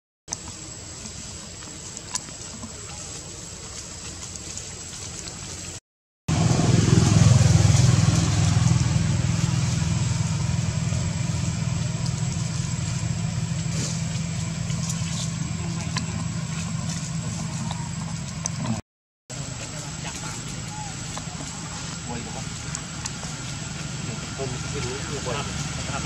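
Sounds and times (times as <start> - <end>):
engine idling hum: 0.3 - 26.0.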